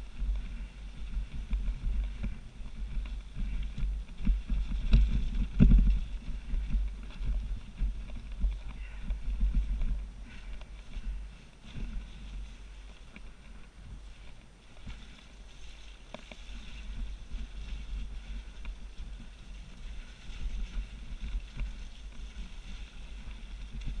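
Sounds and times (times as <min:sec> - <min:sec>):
bike rattling over bumps: 0:00.0 - 0:24.0
low wind rumble: 0:00.0 - 0:24.0.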